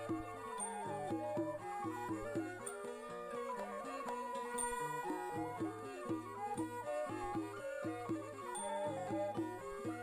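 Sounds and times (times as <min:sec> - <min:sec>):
instrumental folk music: 0:00.0 - 0:10.0.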